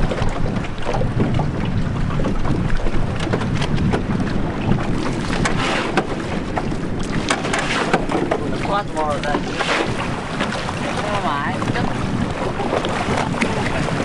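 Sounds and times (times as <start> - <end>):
water splashing: 0.0 - 14.0
wind buffeting microphone: 0.0 - 14.0.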